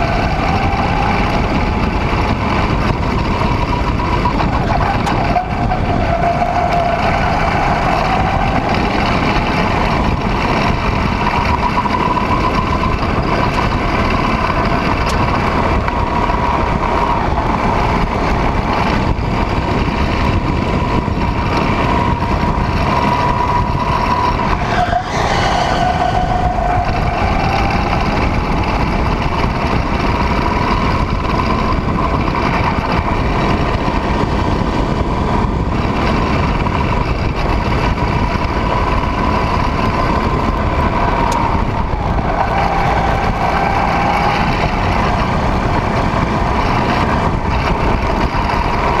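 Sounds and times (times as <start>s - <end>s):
go-kart engine running hard: 0.0s - 49.0s
wind rushing at microphone: 0.0s - 49.0s.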